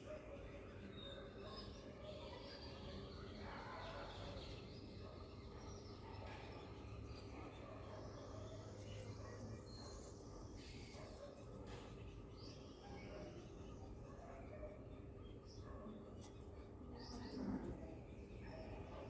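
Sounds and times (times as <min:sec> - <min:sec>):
faint bird chirps: 0:00.0 - 0:19.0
low background hum: 0:00.0 - 0:19.0.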